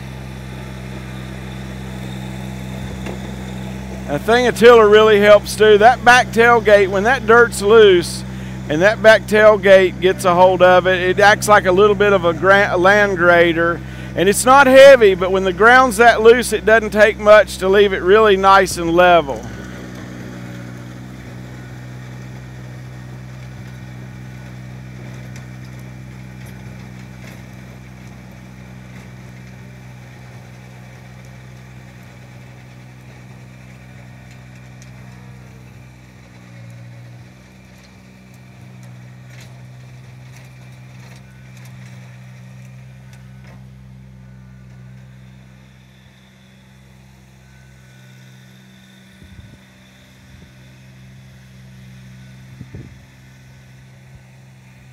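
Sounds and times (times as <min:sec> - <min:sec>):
rotary tiller through soil: 0:00.0 - 0:54.9
tractor diesel engine running: 0:00.0 - 0:54.9.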